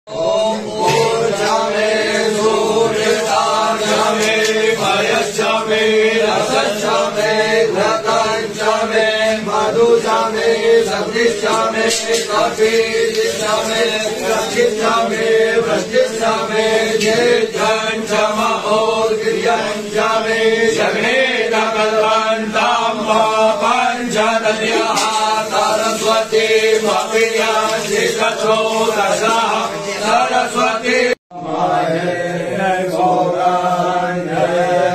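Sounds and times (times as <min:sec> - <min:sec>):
voices chanting: 0:00.1 - 0:34.9.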